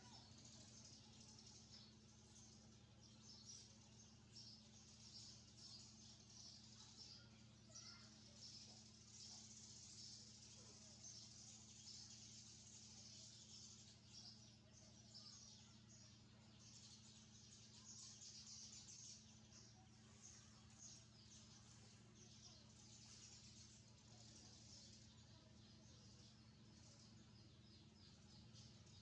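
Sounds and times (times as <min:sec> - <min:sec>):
steady low hum: 0:00.0 - 0:29.0
young birds chirping: 0:00.0 - 0:29.0.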